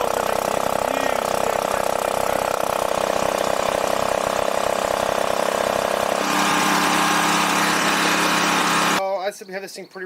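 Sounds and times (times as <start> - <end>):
generator engine running: 0.0 - 9.0.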